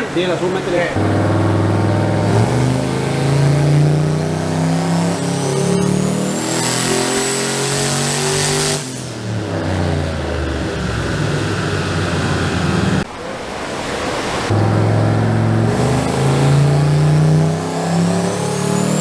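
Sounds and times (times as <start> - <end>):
truck engine revving: 0.0 - 13.1, 14.1 - 19.0
turbo whine: 0.9 - 13.0, 14.5 - 19.0.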